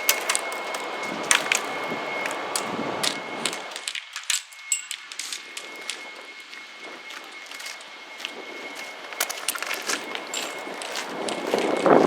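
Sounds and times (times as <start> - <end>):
faint high whine: 0.0 - 12.0
rushing noise: 0.0 - 12.0.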